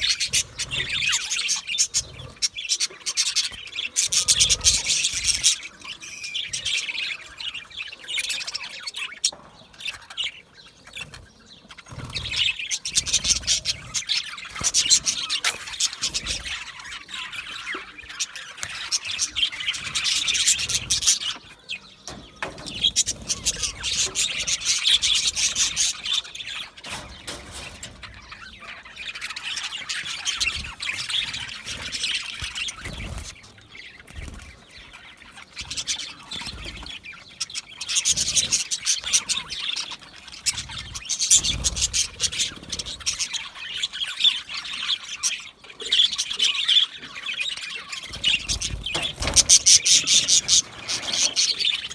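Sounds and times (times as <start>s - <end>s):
budgerigars chirping and chattering: 0.0s - 51.9s.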